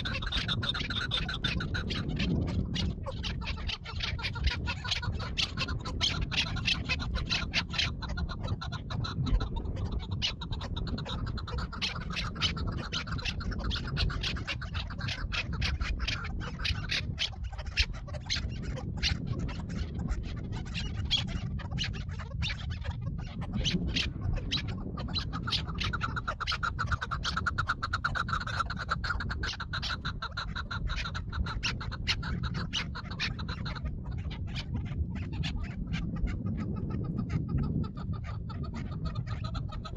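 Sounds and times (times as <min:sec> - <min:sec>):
partridge pulsing calls: 0:00.0 - 0:39.9.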